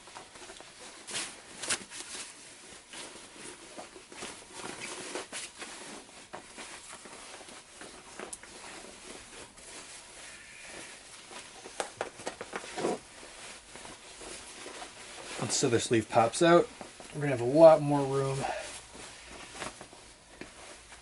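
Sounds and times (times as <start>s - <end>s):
fabric rustling and scuffing: 0.0s - 21.0s.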